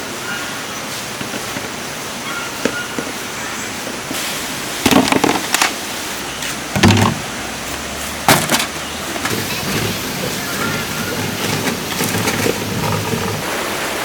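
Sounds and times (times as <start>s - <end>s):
forest stream rushing: 0.0s - 14.0s.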